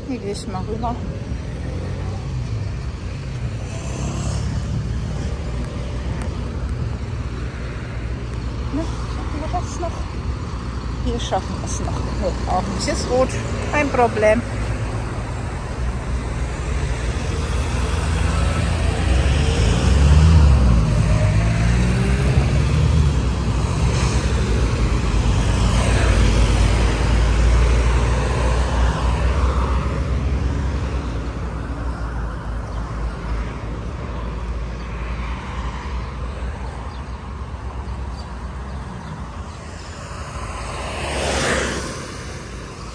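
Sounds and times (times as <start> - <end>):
road traffic passing: 0.0 - 42.9.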